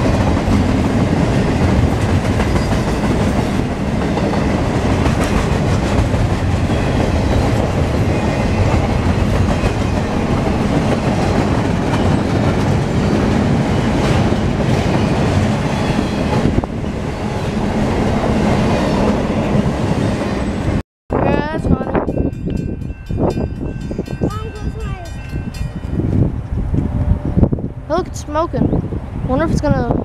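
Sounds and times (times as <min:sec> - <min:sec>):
steel wheels rumbling on rails: 0:00.0 - 0:20.8, 0:21.4 - 0:30.0.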